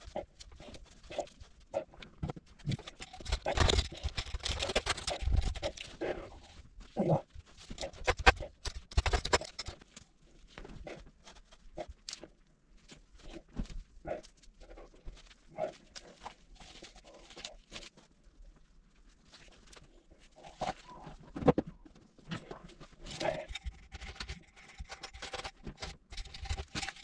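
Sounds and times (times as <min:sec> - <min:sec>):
rustles: 0:00.0 - 0:27.0.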